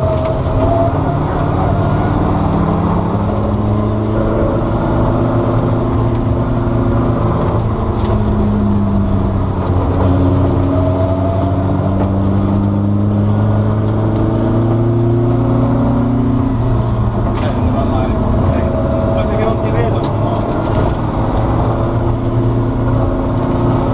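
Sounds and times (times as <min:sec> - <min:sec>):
car engine running at low revs: 0:00.0 - 0:23.9.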